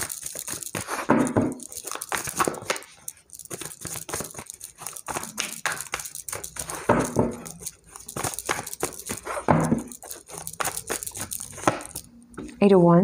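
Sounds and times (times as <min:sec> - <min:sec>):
cards shuffling: 0:00.0 - 0:12.1.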